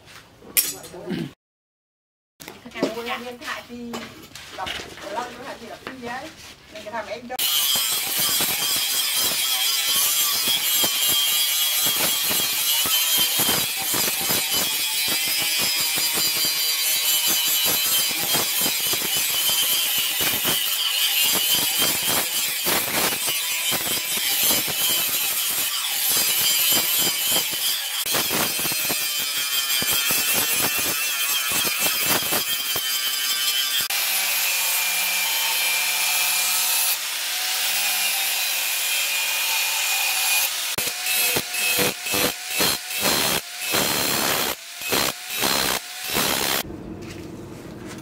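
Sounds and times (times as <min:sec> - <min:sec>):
angle grinder grinding steel: 0:07.4 - 0:46.6.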